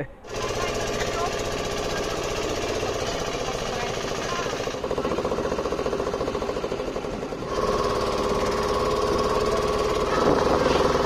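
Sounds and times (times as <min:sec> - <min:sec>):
small engine knocking: 0:00.2 - 0:11.0.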